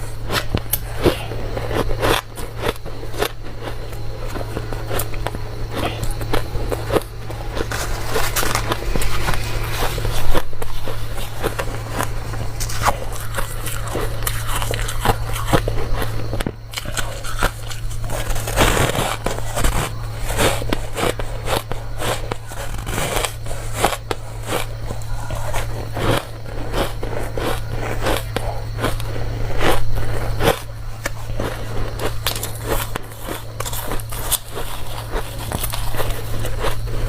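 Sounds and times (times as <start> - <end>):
ice being chewed: 0.0 - 37.0
low steady hum: 0.0 - 37.0.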